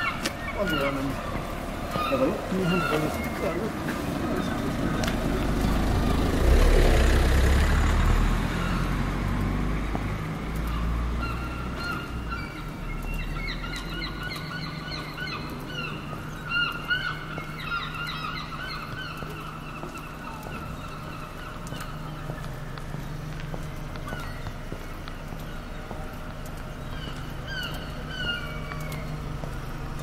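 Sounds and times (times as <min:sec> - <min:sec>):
birds calling: 0:00.0 - 0:30.0.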